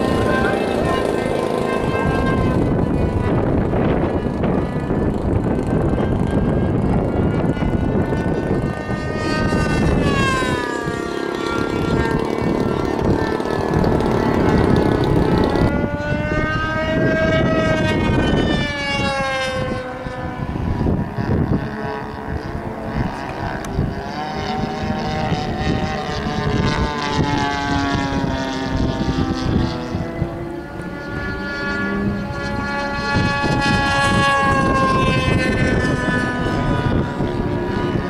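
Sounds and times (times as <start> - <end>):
model airplane engine: 0.0 - 38.0
wind buffeting microphone: 0.0 - 38.0.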